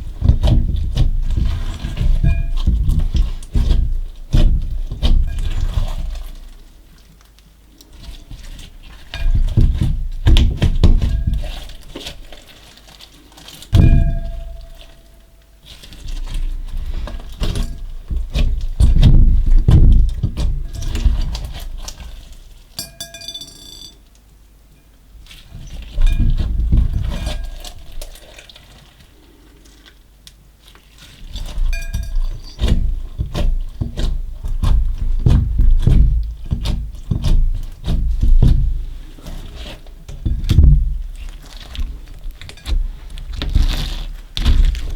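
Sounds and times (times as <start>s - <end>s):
slime squishing by hand: 0.0s - 22.8s, 30.6s - 44.9s.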